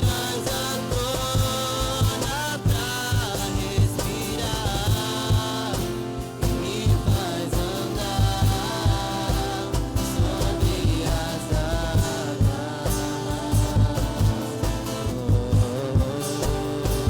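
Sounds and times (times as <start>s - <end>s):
live band playing praise song: 0.0s - 17.0s
people singing: 0.0s - 17.0s
steady drum beat: 0.0s - 17.0s.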